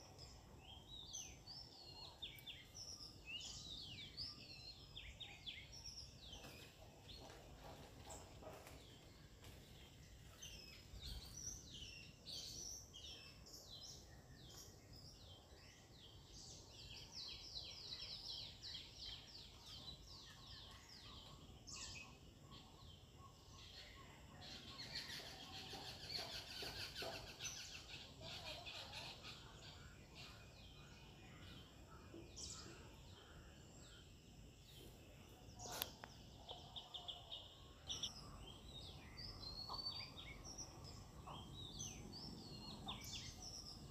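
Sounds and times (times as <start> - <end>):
low outdoor background: 0.0 - 43.9
small birds chirping: 0.0 - 43.9.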